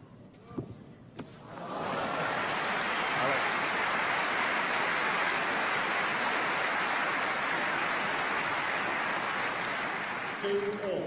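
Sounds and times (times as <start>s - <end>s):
crowd applauding: 1.4s - 11.0s.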